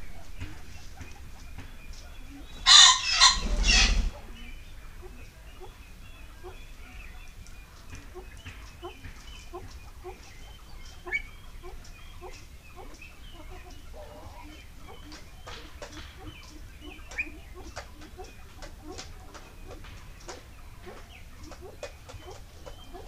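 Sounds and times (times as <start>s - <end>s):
sharp bird calls: 0.0s - 23.0s
small birds chirping: 0.0s - 23.0s
fowl clucking softly: 2.2s - 7.2s, 7.8s - 23.0s.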